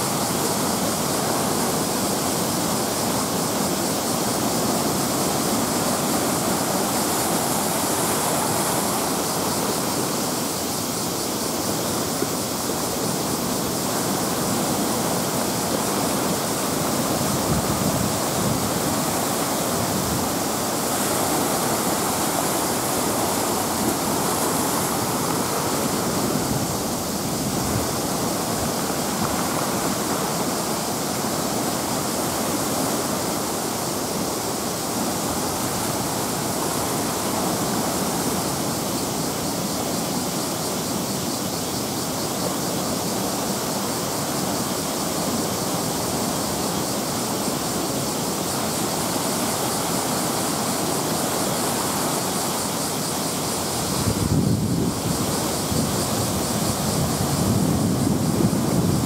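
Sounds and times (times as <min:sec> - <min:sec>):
heavy surf rushing: 0:00.0 - 0:59.0.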